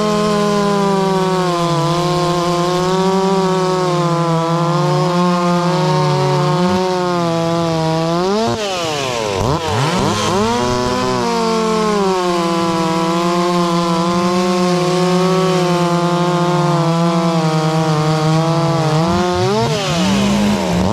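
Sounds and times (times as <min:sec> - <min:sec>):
chainsaw at high revs: 0:00.0 - 0:20.9.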